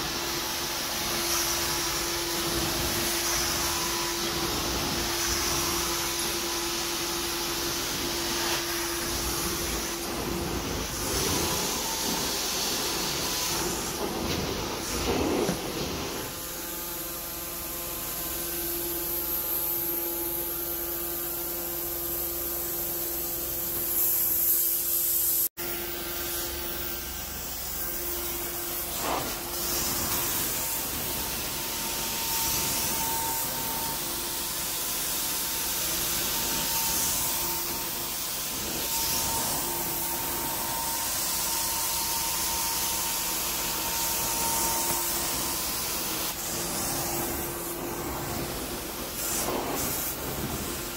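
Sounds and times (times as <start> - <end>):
vacuum whine: 0.0 - 24.3, 25.6 - 50.9
cleaning wand hissing and sucking water: 0.0 - 25.4, 26.2 - 50.9.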